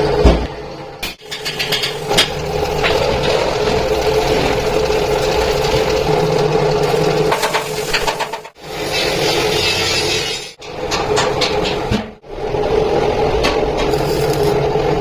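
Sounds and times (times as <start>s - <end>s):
workshop machine humming: 0.0s - 15.0s.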